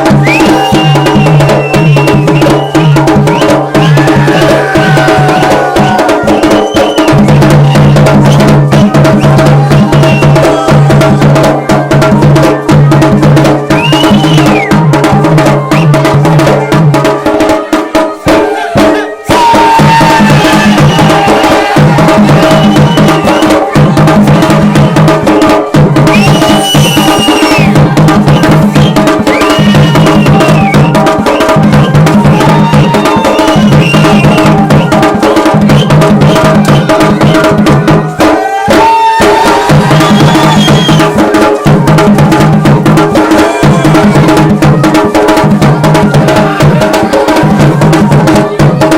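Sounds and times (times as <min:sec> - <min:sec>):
drums playing fast rhythm: 0:00.0 - 0:48.9.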